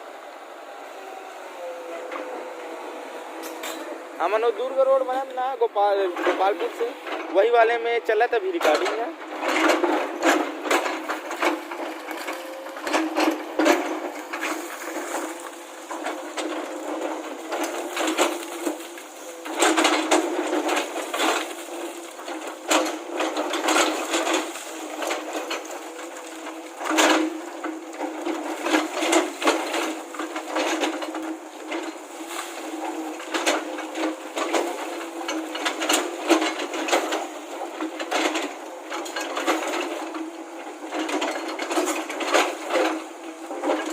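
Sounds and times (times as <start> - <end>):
heavy vehicle engine running: 0.0 - 7.3, 8.7 - 43.9
clattering knocks and rattles: 8.6 - 43.9.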